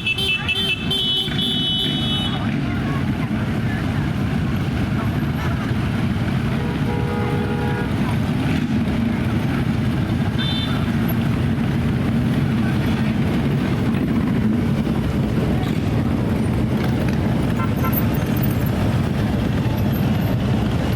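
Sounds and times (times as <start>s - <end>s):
fire truck engines rumbling: 0.0s - 20.9s.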